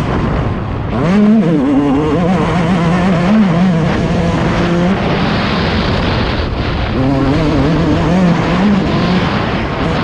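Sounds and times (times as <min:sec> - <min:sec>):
motorcycle engine revving: 0:00.0 - 0:10.0
rushing noise: 0:00.0 - 0:10.0.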